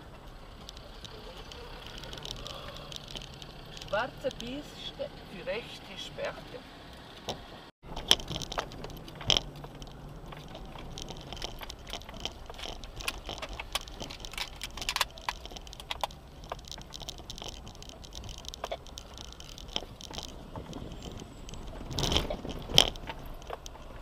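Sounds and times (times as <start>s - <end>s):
rattles and knocks from gravel: 0.0s - 4.7s, 7.2s - 24.0s.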